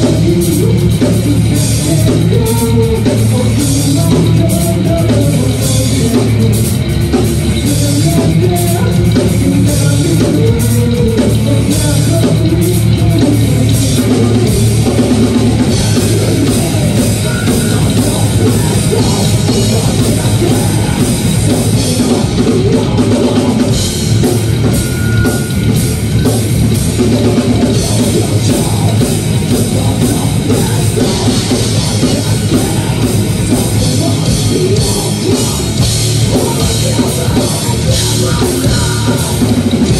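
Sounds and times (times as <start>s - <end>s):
bass guitar: 0.0s - 39.9s
drum kit: 0.0s - 39.9s
electric guitars: 0.0s - 39.9s
lead vocals singing: 0.0s - 39.9s.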